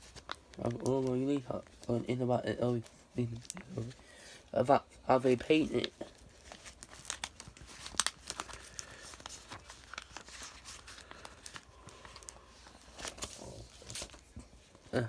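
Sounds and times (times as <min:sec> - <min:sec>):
paper and plastic sheets crinkling: 0:00.0 - 0:15.0.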